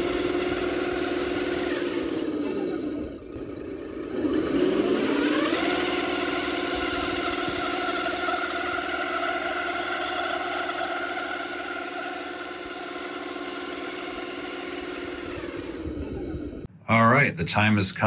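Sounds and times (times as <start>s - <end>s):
toy truck motor droning: 0.0s - 16.7s.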